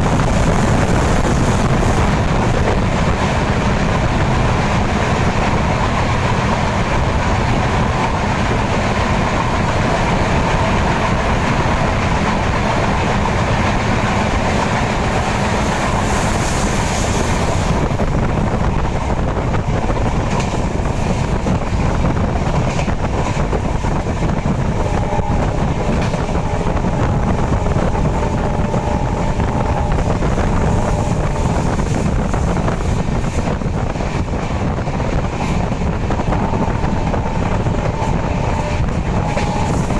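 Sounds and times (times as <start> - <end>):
train running on track: 0.0 - 39.9.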